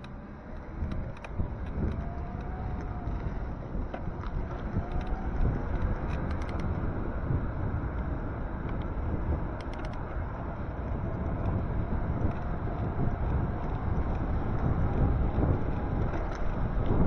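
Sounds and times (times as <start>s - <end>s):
bike clicking: 0.0s - 17.0s
wind buffeting microphone: 0.6s - 17.0s.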